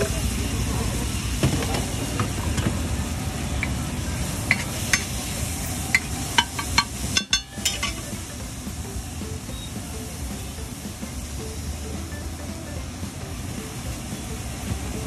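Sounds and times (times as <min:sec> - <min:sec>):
steady sizzle: 0:00.0 - 0:15.0.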